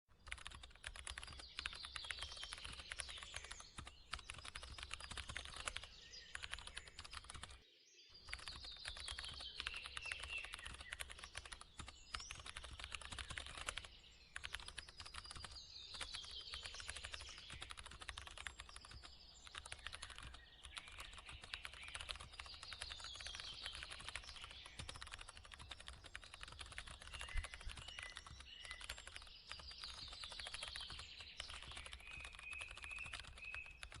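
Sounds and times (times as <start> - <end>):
computer keyboard typing: 0.1 - 7.6, 8.2 - 34.0.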